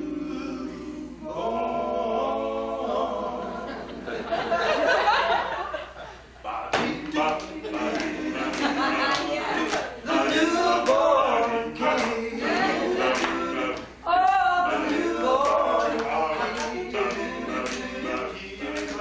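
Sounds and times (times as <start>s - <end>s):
men singing a cappella: 0.0s - 4.6s, 6.4s - 19.0s.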